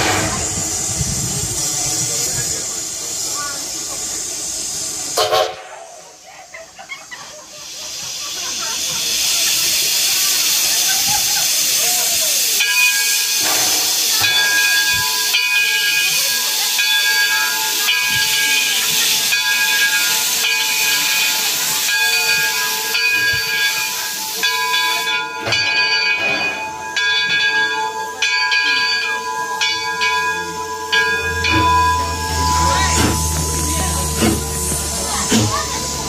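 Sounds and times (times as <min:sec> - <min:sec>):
steam hissing in pulses: 0:00.0 - 0:36.0.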